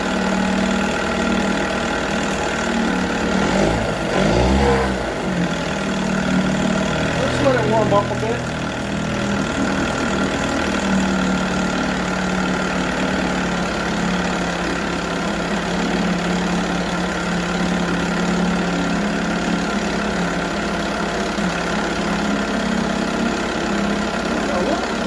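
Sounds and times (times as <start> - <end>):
outboard motor idling: 0.0 - 25.0.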